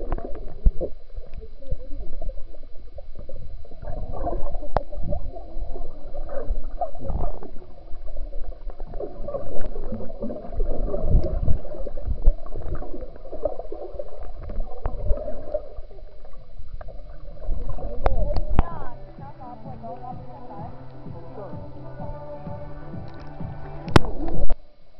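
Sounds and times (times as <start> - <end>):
underwater bubbling and gurgling: 0.0 - 21.8, 23.0 - 24.9.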